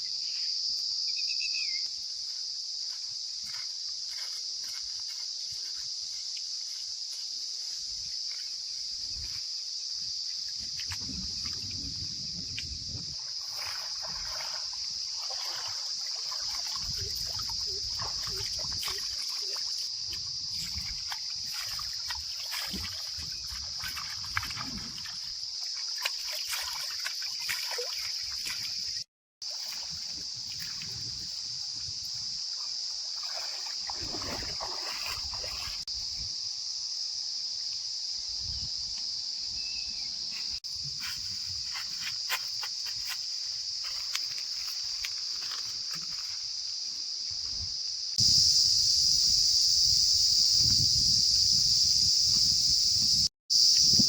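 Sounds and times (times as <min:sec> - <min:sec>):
high-pitched insect drone: 0:00.0 - 0:29.1, 0:30.2 - 0:54.0.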